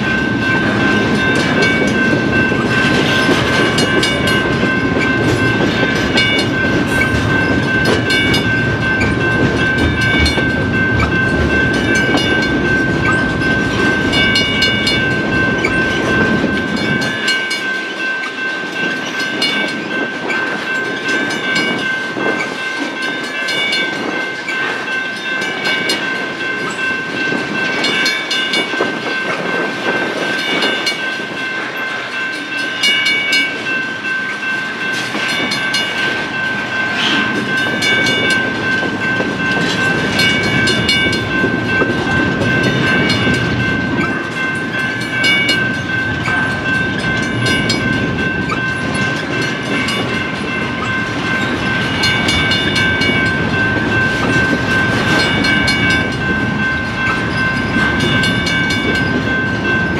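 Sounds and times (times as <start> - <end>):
train wheels clicking over rail joints: 0.0 - 33.6, 34.4 - 59.9
crossing signal ringing: 0.0 - 59.9.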